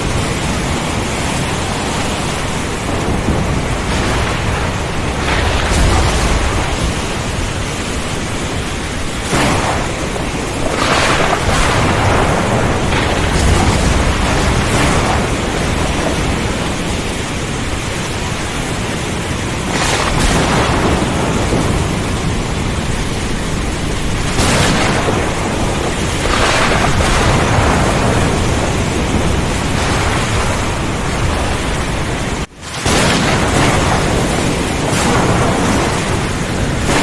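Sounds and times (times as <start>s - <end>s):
heavy rain: 0.0s - 37.0s
strong wind: 0.0s - 37.0s
thunder rolling: 0.0s - 37.0s.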